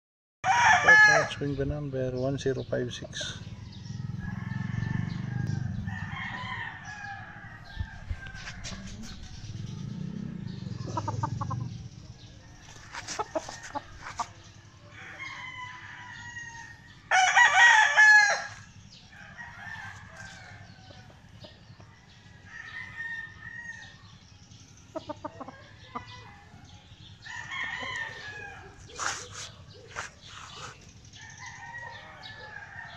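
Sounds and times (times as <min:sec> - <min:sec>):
distant roosters crowing: 0:00.4 - 0:32.9.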